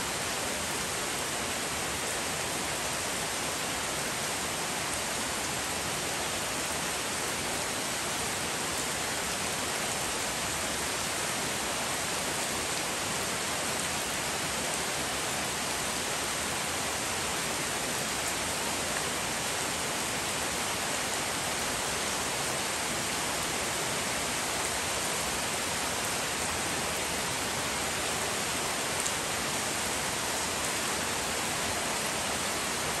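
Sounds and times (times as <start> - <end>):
rain falling on foliage: 0.0 - 33.0.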